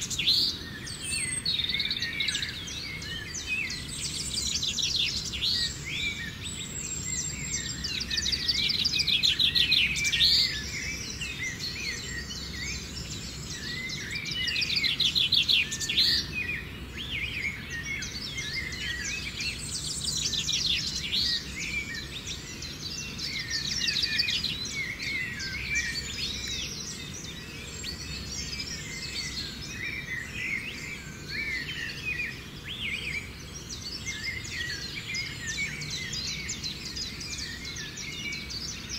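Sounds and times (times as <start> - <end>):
birds chirping and calling: 0.0 - 38.9
low background noise: 0.0 - 38.9.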